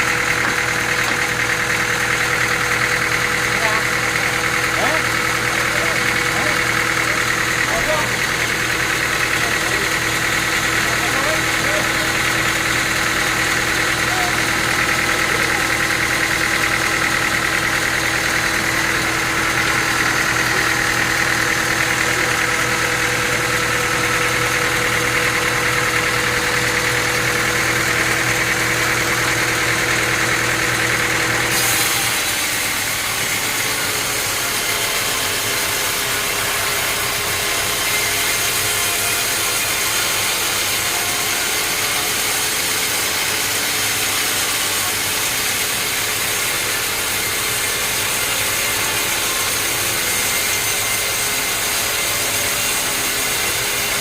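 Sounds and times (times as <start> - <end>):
noisy machine: 0.0 - 54.0
sawmill machinery humming: 0.0 - 54.0.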